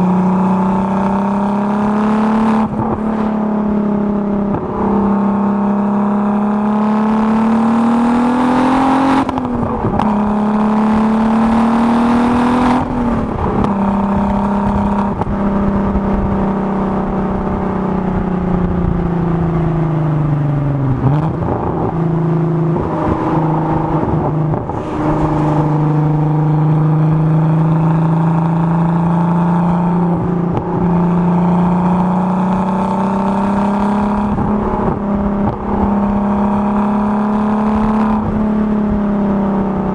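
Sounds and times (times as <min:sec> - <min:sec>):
turbocharged car engine running: 0:00.0 - 0:07.7, 0:09.1 - 0:39.9.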